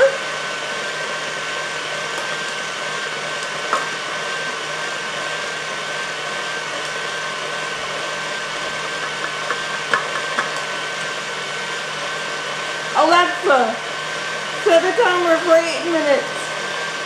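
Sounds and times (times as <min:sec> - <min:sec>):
stand mixer motor whine: 0:00.0 - 0:17.0.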